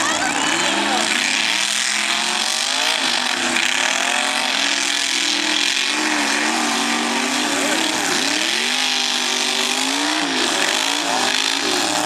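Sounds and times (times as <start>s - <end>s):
spinning tyres and flung mud: 0.0s - 12.0s
truck engine revving hard: 0.0s - 12.0s.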